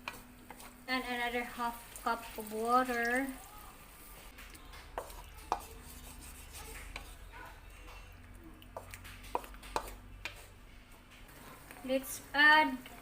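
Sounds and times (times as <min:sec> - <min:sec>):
utensil stirring sauce in a pot: 0:00.0 - 0:10.6.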